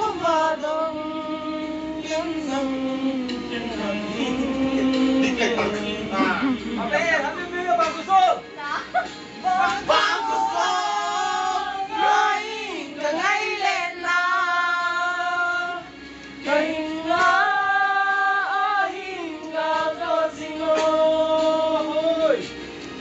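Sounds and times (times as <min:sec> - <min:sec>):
sustained musical backing: 0:00.0 - 0:23.0.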